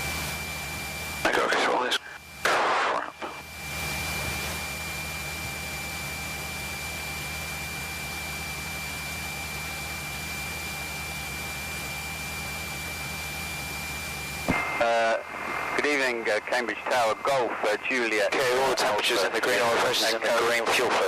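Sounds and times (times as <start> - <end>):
high-pitched whine: 0.0 - 21.0.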